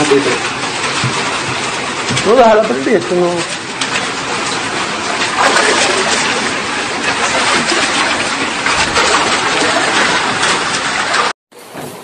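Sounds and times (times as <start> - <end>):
heavy rain pouring: 0.0 - 11.3.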